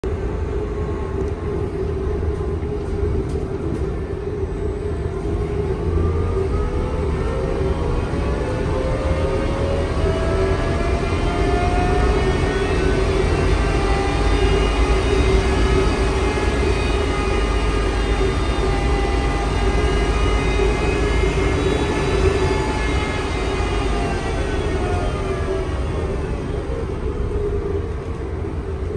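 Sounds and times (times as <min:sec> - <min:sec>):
electric hum of trolleybus: 0:00.0 - 0:28.9
low rumble: 0:00.0 - 0:28.9.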